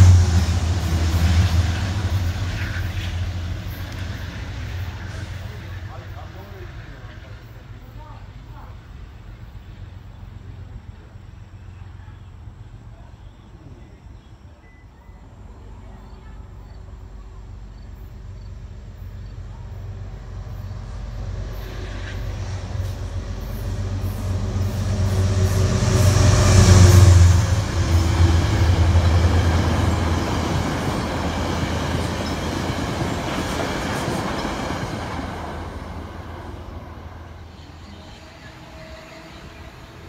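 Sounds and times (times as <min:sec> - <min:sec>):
diesel locomotive rumble: 0:00.0 - 0:14.1, 0:15.2 - 0:40.0
train coaches rumbling past: 0:00.0 - 0:40.0.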